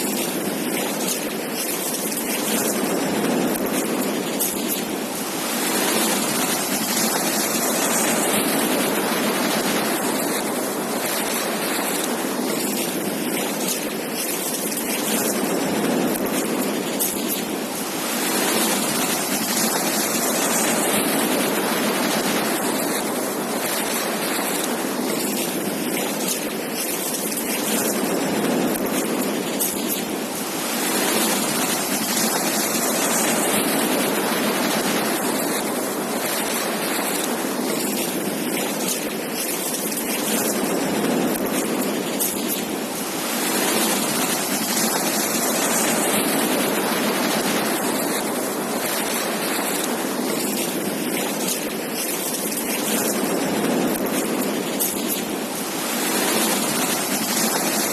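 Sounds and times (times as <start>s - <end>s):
waves breaking on a beach: 0.0s - 57.9s.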